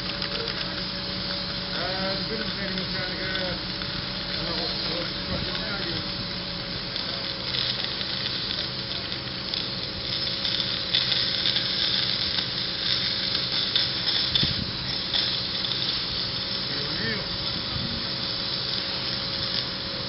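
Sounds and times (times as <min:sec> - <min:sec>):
fire crackling and sizzling: 0:00.0 - 0:20.0
fire hose water jet hissing: 0:00.0 - 0:20.0
steady low hum: 0:00.0 - 0:20.0.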